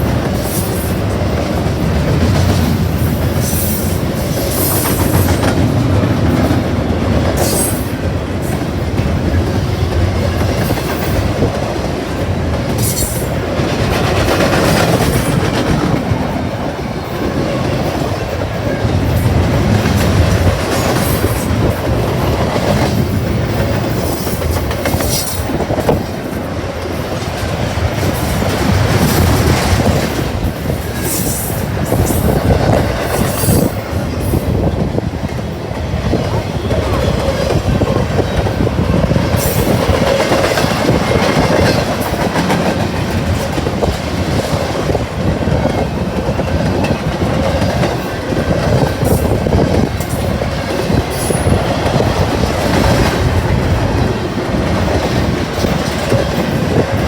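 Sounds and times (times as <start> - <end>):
train wheel squeals: 0.0 - 6.6, 7.2 - 11.4, 12.6 - 34.8, 35.4 - 57.0
freight train rumbling: 0.0 - 57.0
train wheels clickety-clack: 0.0 - 57.0.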